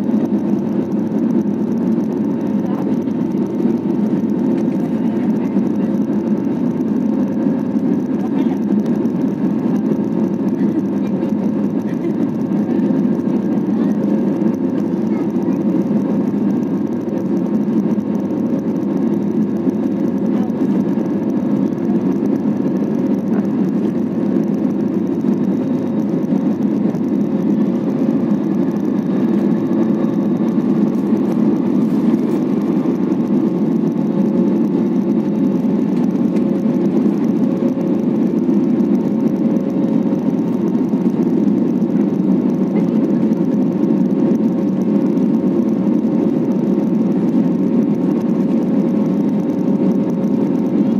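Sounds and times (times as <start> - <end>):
jet engine and airflow rush: 0.0 - 50.9.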